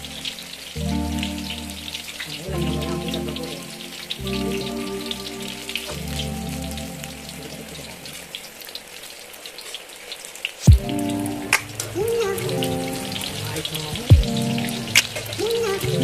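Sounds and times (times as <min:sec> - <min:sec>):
background music: 0:00.0 - 0:08.8, 0:10.7 - 0:16.0.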